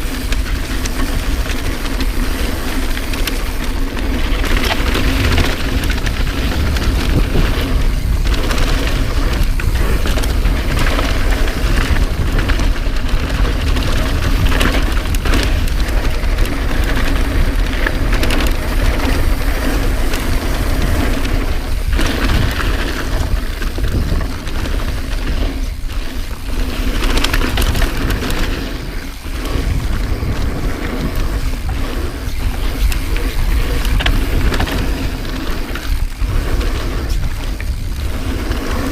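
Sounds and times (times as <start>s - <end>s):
bike chain and frame rattling: 0.0s - 38.9s
bike tyres rolling over rocks: 0.0s - 38.9s
wind buffeting microphone: 0.0s - 38.9s.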